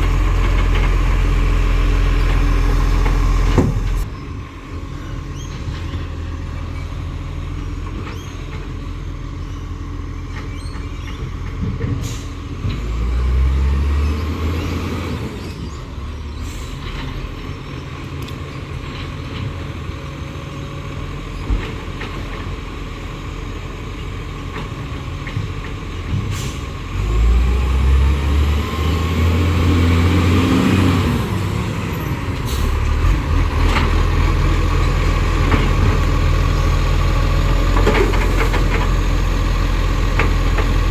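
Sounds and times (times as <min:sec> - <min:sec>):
garbage truck engine revving: 0:00.0 - 0:04.1, 0:05.0 - 0:17.3, 0:20.8 - 0:40.9.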